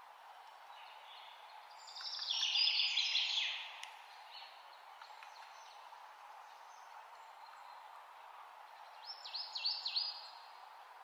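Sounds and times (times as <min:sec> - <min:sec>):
nature ambience hiss: 0:00.0 - 0:11.0.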